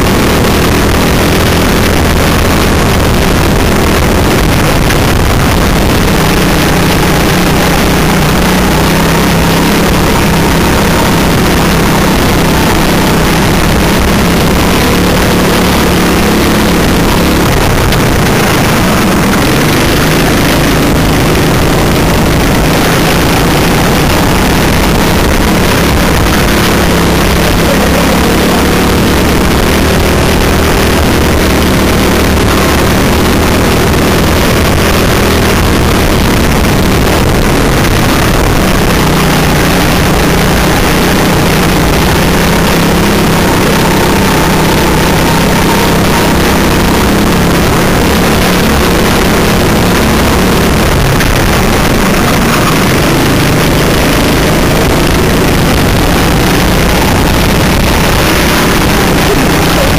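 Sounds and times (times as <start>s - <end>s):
constant rushing noise: 0.0s - 59.9s
go-kart engine racing: 0.0s - 59.9s.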